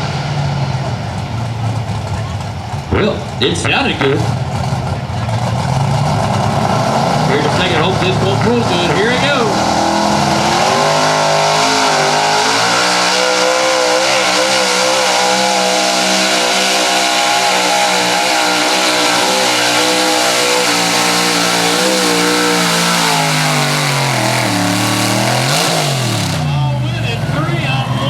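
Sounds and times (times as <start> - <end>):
truck engine at full throttle: 0.0 - 28.0.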